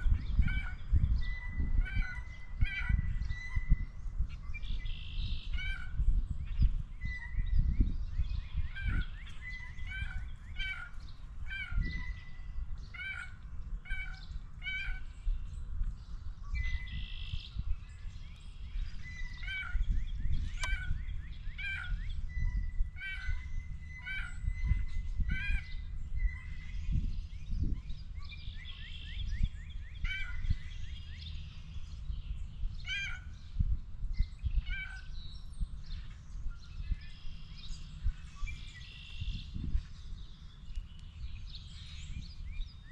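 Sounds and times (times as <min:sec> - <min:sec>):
birds calling: 0:00.0 - 0:42.9.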